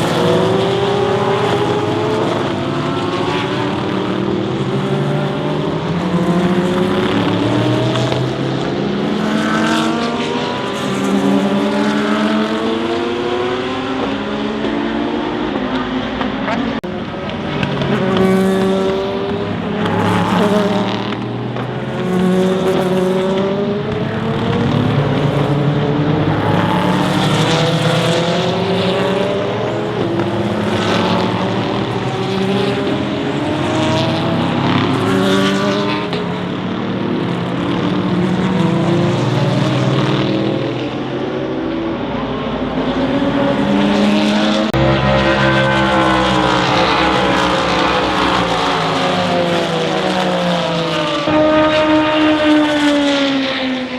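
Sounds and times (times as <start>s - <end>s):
race cars passing at speed: 0.0s - 53.9s.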